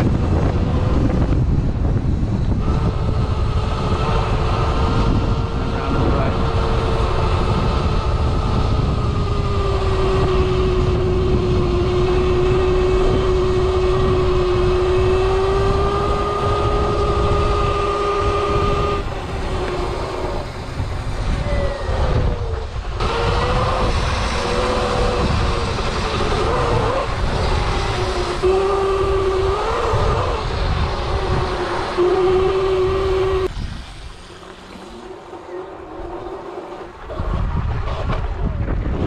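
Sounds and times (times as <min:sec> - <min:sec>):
electric motorbike motor whining: 0:00.0 - 0:38.6
wind rumble on microphone: 0:00.0 - 0:39.0.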